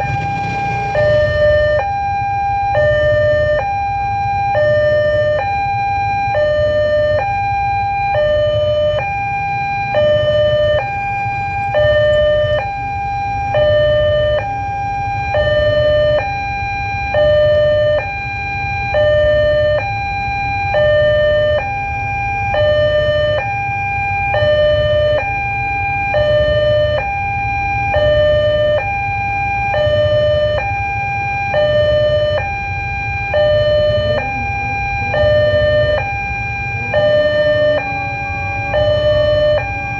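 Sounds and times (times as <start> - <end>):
two-tone crossing alarm: 0.0 - 39.9.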